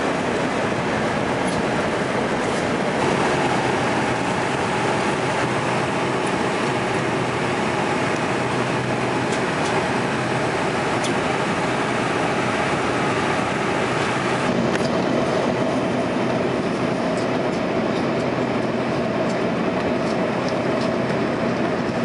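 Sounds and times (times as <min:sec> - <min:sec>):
airliner cabin engine rush: 0:00.0 - 0:22.0.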